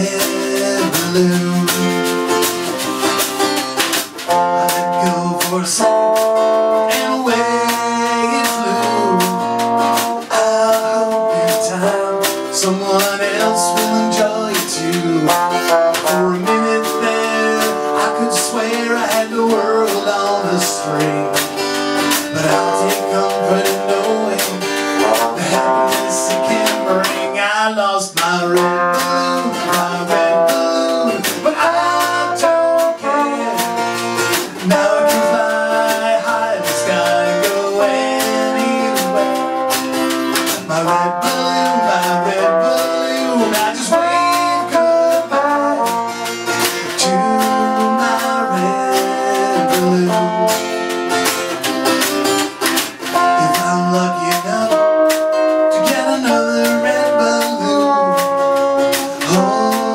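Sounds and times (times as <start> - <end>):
acoustic guitar strumming: 0.0 - 59.9
drums: 0.0 - 59.9
trombone sliding melody: 0.0 - 59.9.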